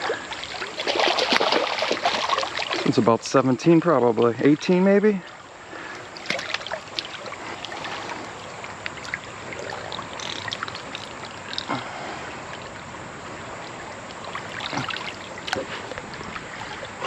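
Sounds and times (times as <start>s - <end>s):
small splashes: 0.0s - 3.1s, 5.2s - 17.0s
river water babbling: 0.0s - 17.0s.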